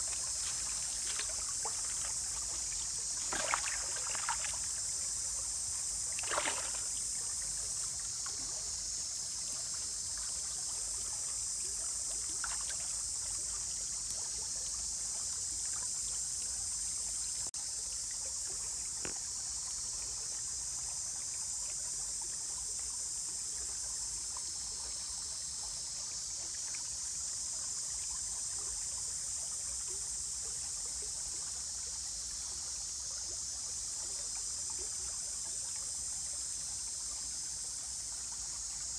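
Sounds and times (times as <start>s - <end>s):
creekside ambient hiss: 0.0s - 38.9s
faint water splashes: 0.0s - 38.9s.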